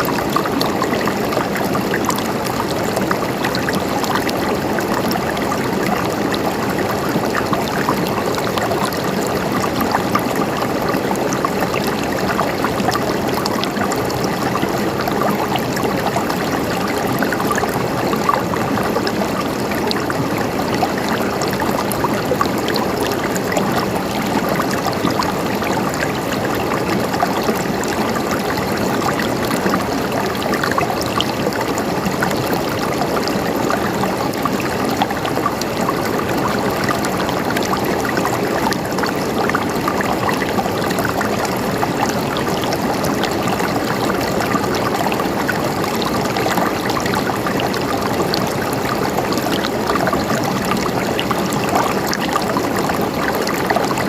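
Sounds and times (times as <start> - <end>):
river water flowing over stones: 0.0 - 54.0.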